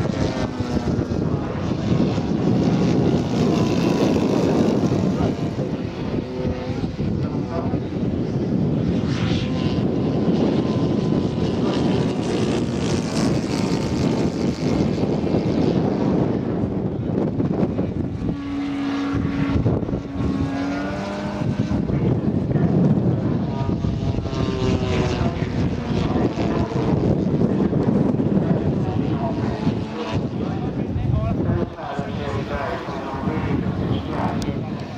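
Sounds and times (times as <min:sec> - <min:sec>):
model plane propeller engine drone: 0:00.0 - 0:34.9.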